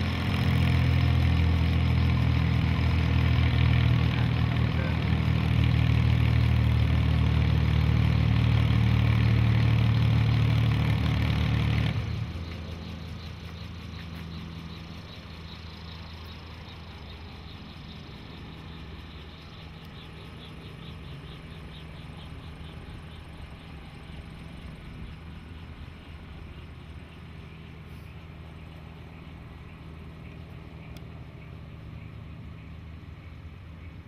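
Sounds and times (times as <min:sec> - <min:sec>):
helicopter engine idling: 0:00.0 - 0:34.0.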